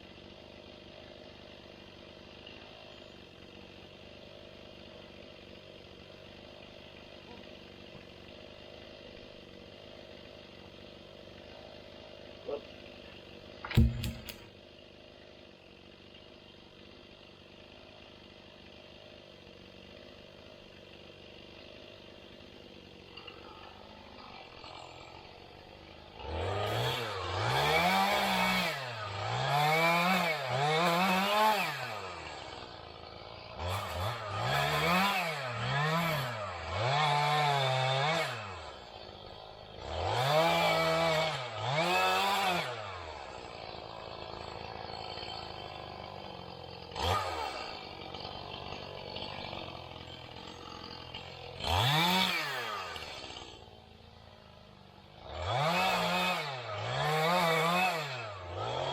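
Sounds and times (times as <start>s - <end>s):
chainsaw engine revving: 0.0s - 15.0s, 15.7s - 58.9s.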